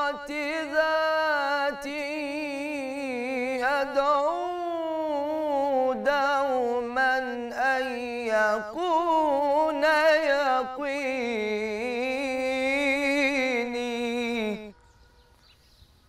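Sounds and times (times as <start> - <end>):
man singing religious hymn solo: 0.0 - 14.8.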